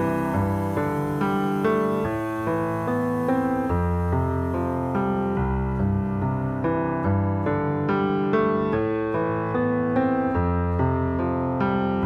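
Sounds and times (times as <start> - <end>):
solo grand piano: 0.0 - 12.0.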